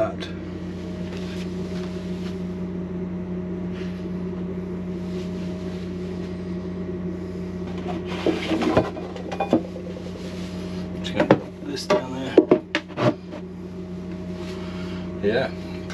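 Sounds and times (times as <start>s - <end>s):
electric motor hum: 0.2s - 15.9s.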